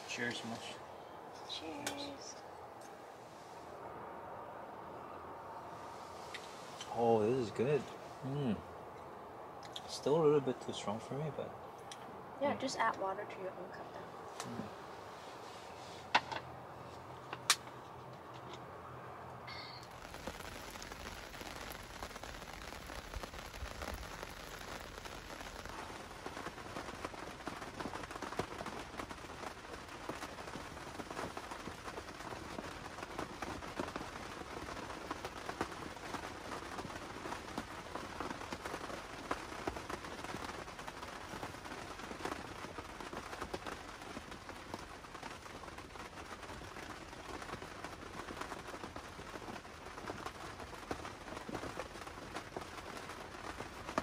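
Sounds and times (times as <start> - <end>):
steady rain pattering: 0.0 - 54.0.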